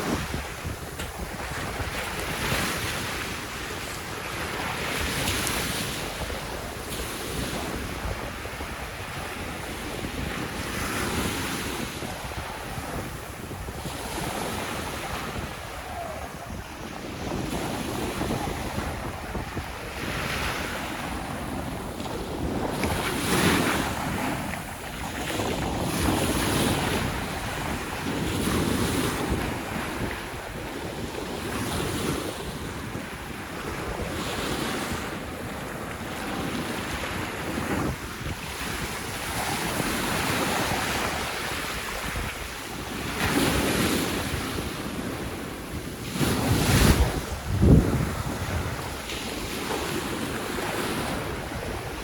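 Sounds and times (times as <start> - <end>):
sea waves on sandy beach: 0.0 - 52.0
wind on microphone: 0.0 - 52.0.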